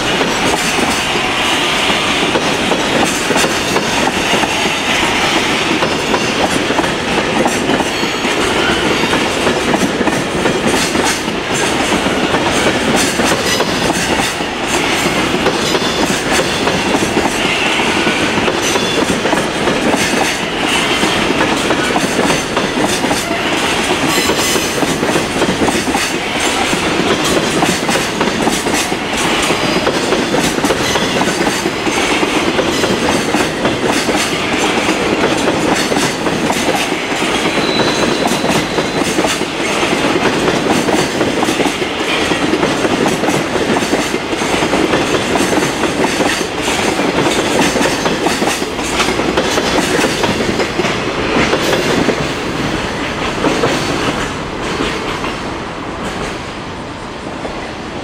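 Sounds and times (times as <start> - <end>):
wheels clickety-clack over rail joints: 0.0 - 56.5
freight train rumbling past: 0.0 - 58.0.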